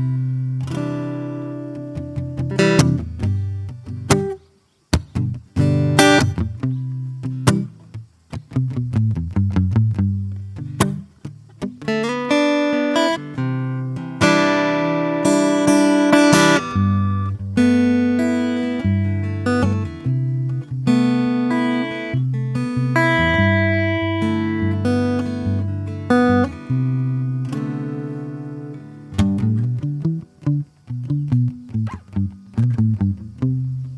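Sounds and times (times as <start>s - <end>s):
fingerstyle acoustic guitar: 0.0s - 33.9s.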